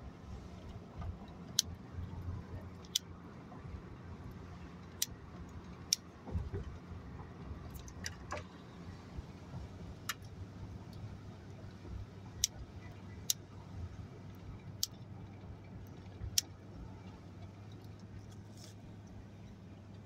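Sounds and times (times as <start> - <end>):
vehicle driving heard from cabin: 0.0 - 20.0.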